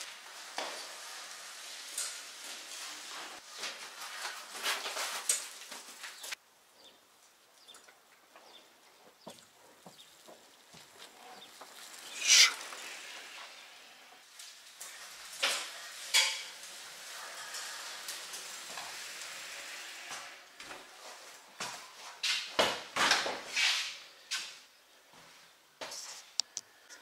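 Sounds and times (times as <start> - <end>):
bicycle clattering and scraping: 0.0 - 6.4, 7.6 - 23.7
bicycle tyres on grass: 0.0 - 6.4, 7.0 - 23.9.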